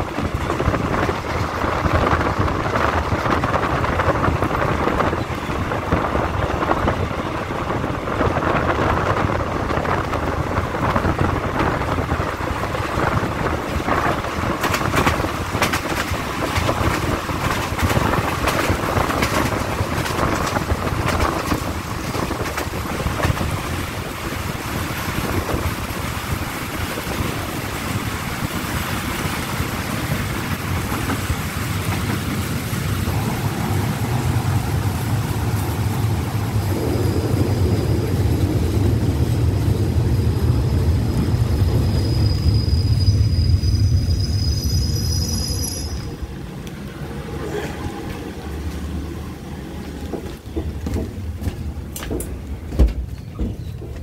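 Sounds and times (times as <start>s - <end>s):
rushing wind: 0.0s - 54.0s
train wheels rumbling on rails: 0.0s - 54.0s.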